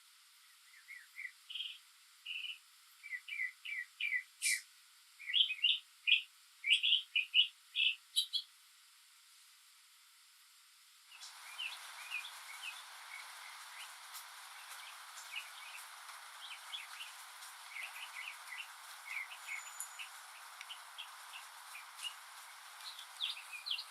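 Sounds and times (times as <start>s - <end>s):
steady rain hiss: 0.0s - 23.9s
faint bird chirps: 0.4s - 8.6s, 11.1s - 23.9s.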